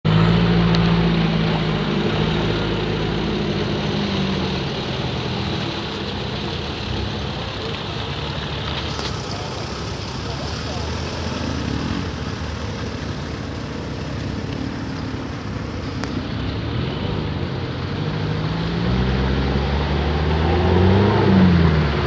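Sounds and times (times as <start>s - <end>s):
off-road vehicle engine at low revs: 0.0s - 22.0s.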